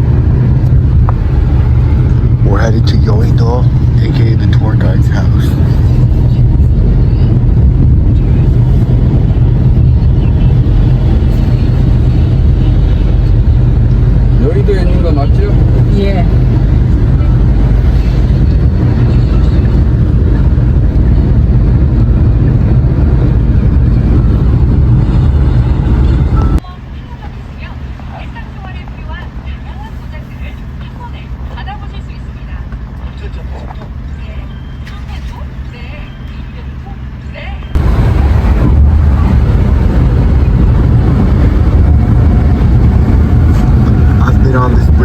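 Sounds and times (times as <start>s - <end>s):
road and engine noise inside car: 0.0s - 45.0s.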